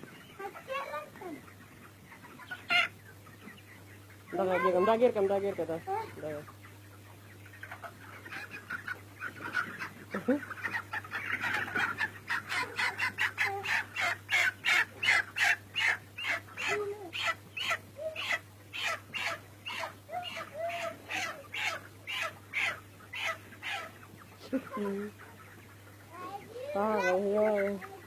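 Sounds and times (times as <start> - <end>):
short repeated chicken calls: 0.0 - 4.8, 6.4 - 28.0
chickens calling: 0.0 - 28.0.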